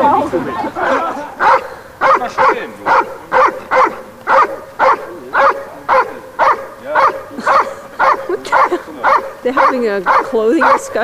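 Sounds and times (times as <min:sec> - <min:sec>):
dog barking: 0:01.4 - 0:11.0.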